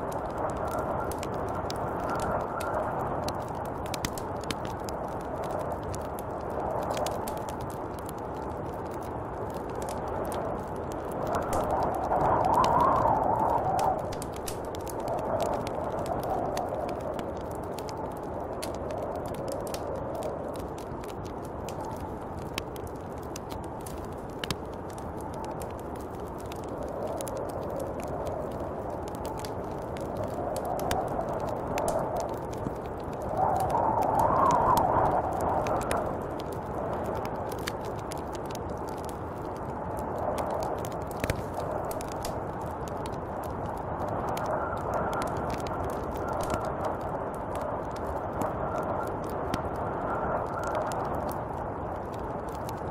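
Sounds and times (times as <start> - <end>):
small clicks and ticks: 0.0 - 52.9
small sharp crackles: 0.0 - 52.9
snowstorm wind hissing: 0.0 - 52.9.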